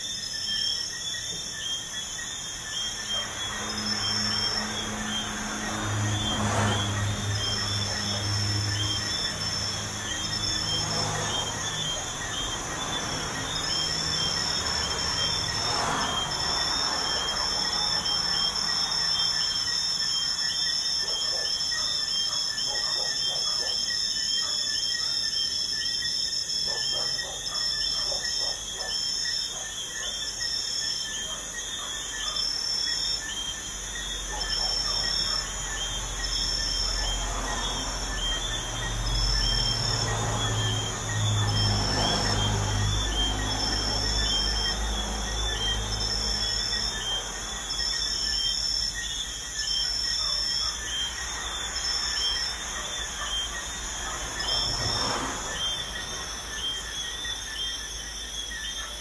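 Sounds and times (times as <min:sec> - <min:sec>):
crickets trilling: 0:00.0 - 0:59.0
highway traffic: 0:00.0 - 0:59.0.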